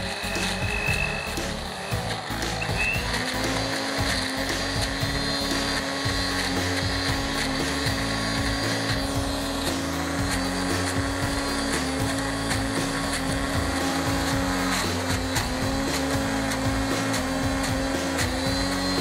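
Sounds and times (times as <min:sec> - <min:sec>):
small blender motor running: 0:00.0 - 0:19.0.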